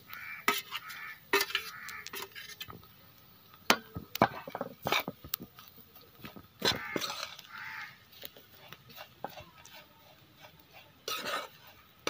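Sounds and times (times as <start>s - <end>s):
spatula scraping in a pan: 0.0s - 3.0s, 3.6s - 12.0s.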